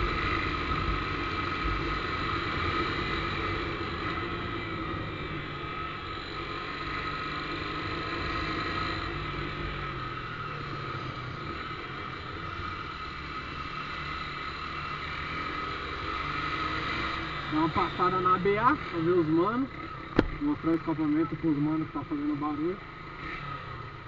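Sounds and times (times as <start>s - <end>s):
motorcycle engine droning: 0.0s - 24.0s.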